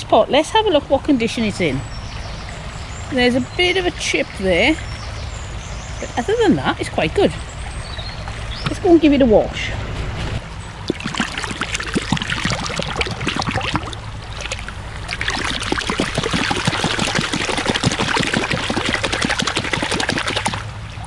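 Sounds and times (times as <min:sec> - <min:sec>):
water splashing and trickling: 0:01.3 - 0:09.6, 0:10.6 - 0:21.0.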